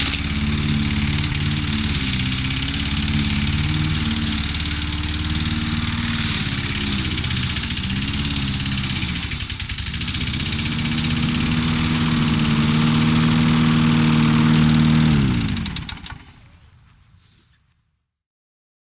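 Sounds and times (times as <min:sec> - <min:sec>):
petrol lawn mower engine running: 0:00.0 - 0:16.5.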